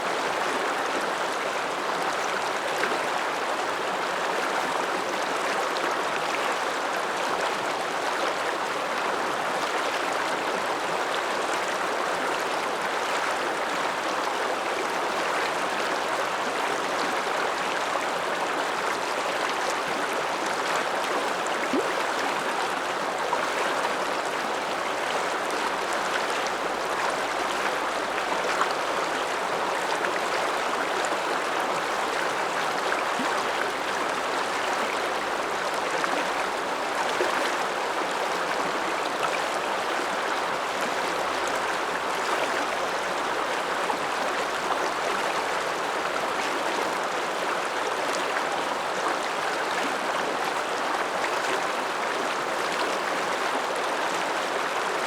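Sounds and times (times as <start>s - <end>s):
mountain river rushing: 0.0s - 55.0s.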